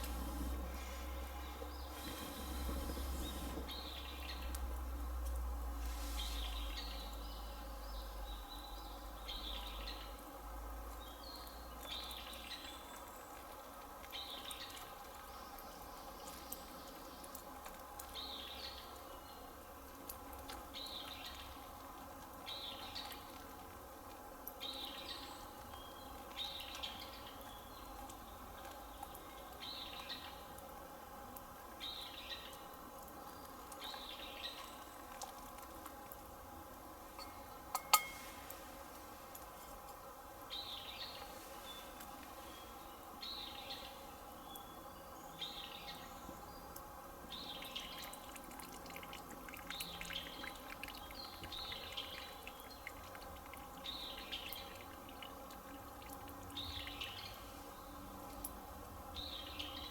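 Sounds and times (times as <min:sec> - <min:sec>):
faint background noise: 0:00.0 - 0:59.9.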